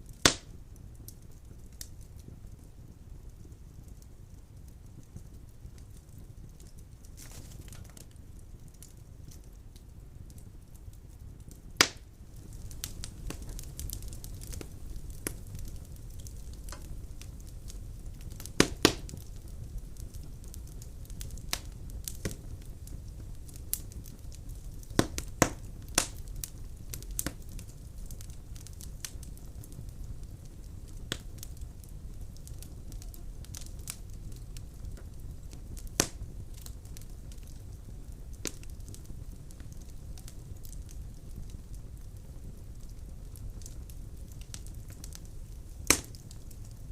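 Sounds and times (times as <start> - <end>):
low rumble of flames: 0.0 - 46.9
sharp pops of fire: 0.0 - 46.9
logs crackling: 0.1 - 2.0, 3.3 - 46.9.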